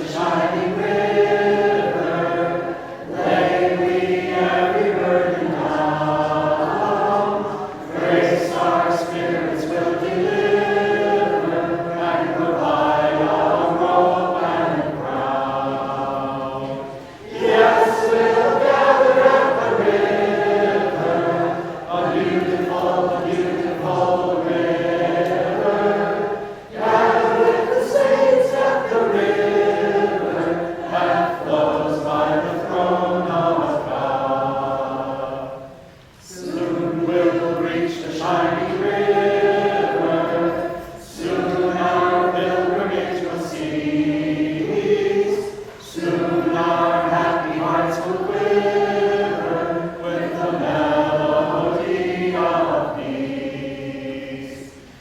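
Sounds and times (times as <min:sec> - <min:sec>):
small vocal group singing: 0:00.0 - 0:55.0.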